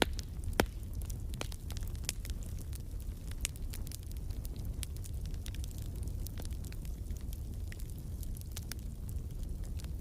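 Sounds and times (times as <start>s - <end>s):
fire crackles and pops: 0.0s - 10.0s
fire low rumble: 0.0s - 10.0s.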